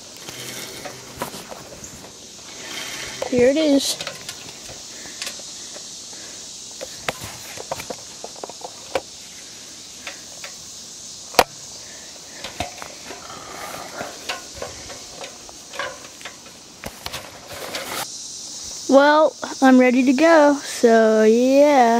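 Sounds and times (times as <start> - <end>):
insects droning: 0.0 - 21.9.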